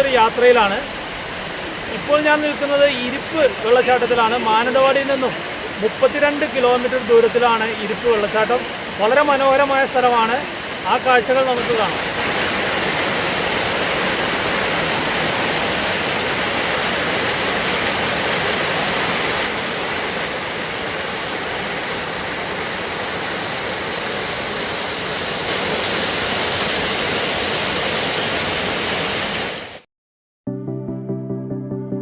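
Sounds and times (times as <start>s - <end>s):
waterfall rushing: 0.0s - 29.8s.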